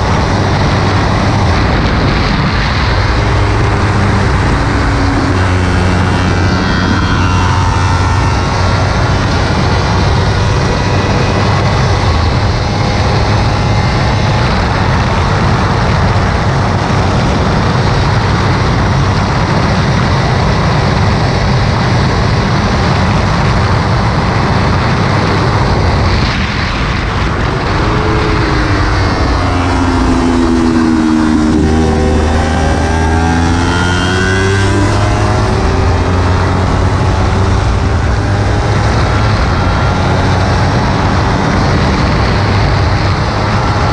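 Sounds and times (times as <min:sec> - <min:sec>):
motorcycle engine running hard: 0:00.0 - 0:43.9.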